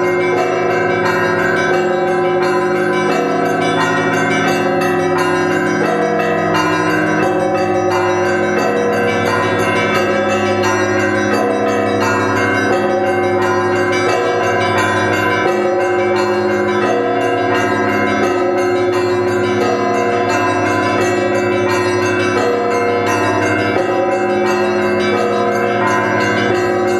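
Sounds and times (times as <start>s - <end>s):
church bells pealing: 0.0s - 26.9s.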